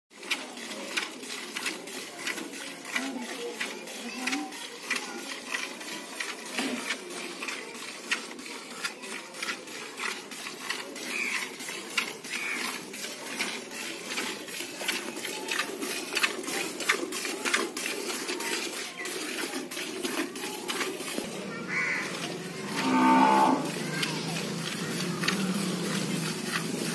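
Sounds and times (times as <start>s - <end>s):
milk squirting into plastic bucket: 0.2s - 22.8s.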